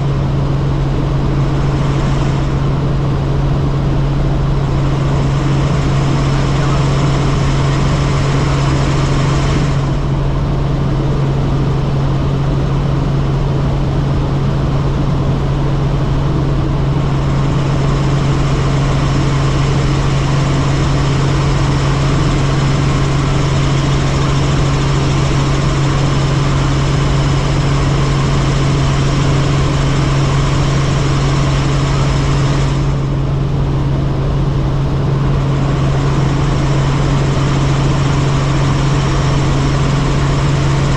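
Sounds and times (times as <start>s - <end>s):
constant low hum: 0.0s - 40.9s
helicopter engine and rotor drone: 0.0s - 40.9s.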